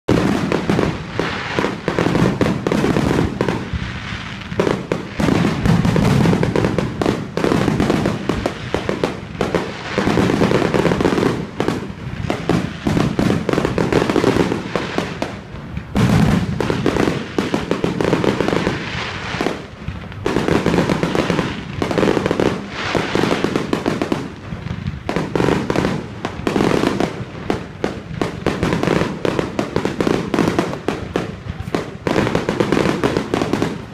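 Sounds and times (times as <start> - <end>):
fireworks bangs and crackling: 0.1 - 33.9.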